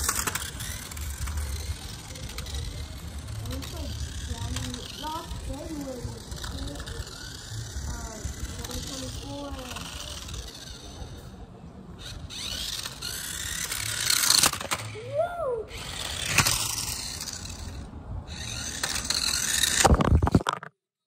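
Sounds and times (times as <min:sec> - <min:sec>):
toy car motor whirring: 0:00.0 - 0:20.5.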